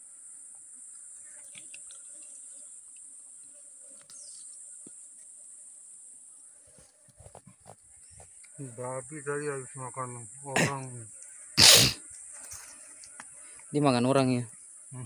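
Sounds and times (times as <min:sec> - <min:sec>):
insect chorus droning: 0:00.0 - 0:15.0.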